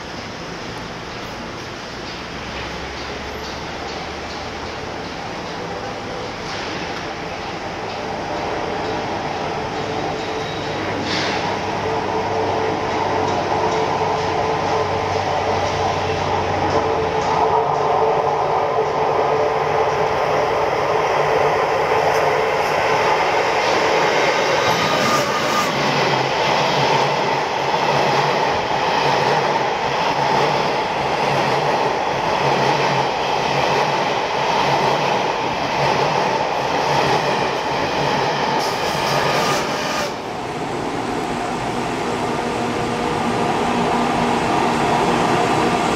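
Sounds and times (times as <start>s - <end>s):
train wheels on rails: 0.0s - 45.9s.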